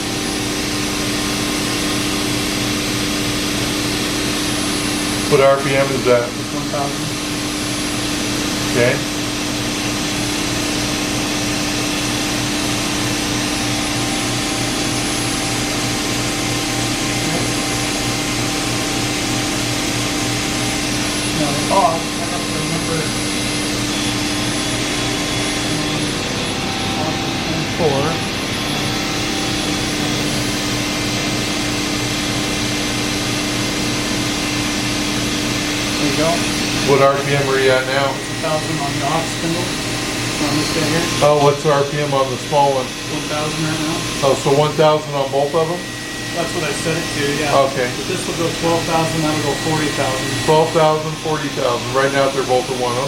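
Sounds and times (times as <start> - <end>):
machining center humming: 0.0 - 53.0.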